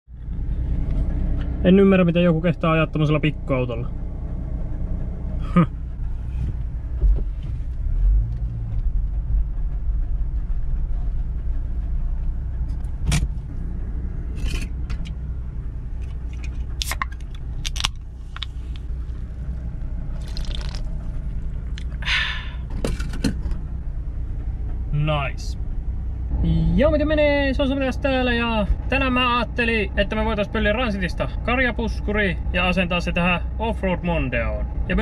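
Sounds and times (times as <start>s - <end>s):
car idling: 0.1s - 35.0s.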